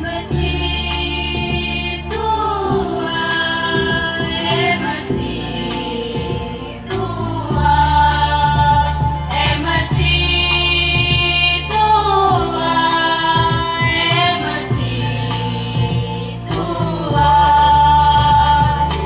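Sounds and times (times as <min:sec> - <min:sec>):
electronic keyboard sustained bass: 0:00.0 - 0:19.0
women singing together: 0:00.0 - 0:19.0.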